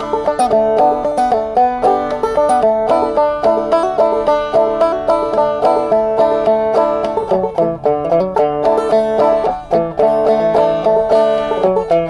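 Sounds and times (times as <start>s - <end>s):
banjo playing: 0.0s - 12.0s.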